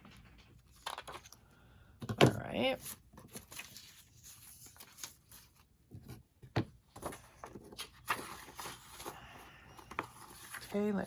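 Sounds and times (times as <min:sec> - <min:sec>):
paper rustling: 0:00.0 - 0:01.4, 0:02.6 - 0:06.2, 0:06.9 - 0:11.0.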